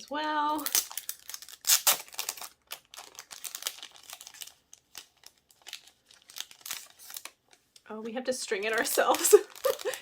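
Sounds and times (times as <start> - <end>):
packaging crinkling and rustling: 0.0 - 7.8, 8.5 - 10.0.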